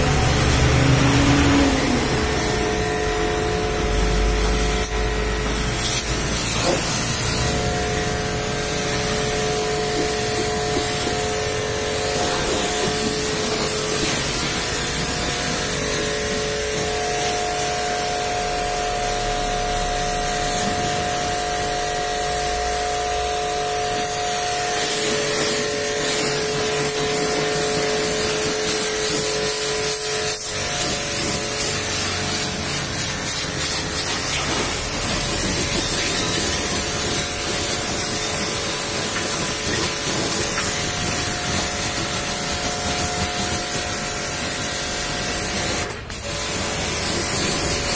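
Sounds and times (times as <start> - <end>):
pressure washer spraying water: 0.0 - 47.9.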